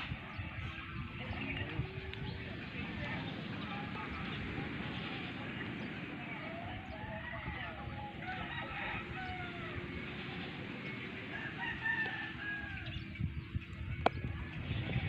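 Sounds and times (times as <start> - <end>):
roosters crowing: 0.8 - 13.5.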